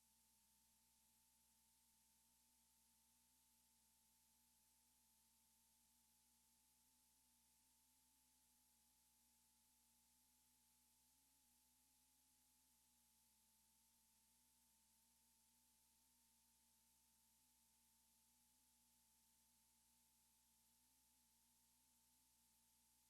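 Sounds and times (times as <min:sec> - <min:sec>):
faint steady tone: 0:00.0 - 0:23.0.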